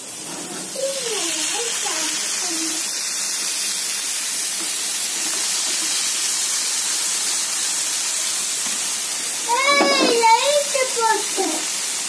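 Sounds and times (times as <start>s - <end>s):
hot oil sizzling in a pan: 0.0s - 12.0s.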